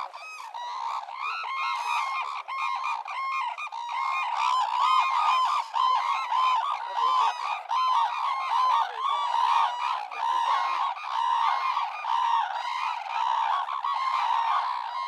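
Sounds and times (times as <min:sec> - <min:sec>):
cranes calling: 0:00.0 - 0:15.0.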